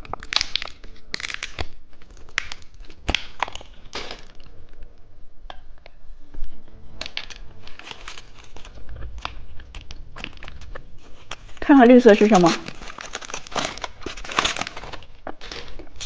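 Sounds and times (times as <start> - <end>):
plastic wrappers crinkling: 0.0 - 4.6, 7.1 - 16.0.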